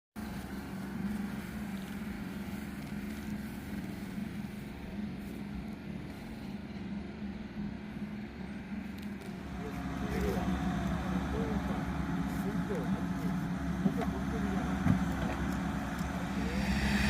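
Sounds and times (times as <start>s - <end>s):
engine humming steadily: 0.2s - 17.0s.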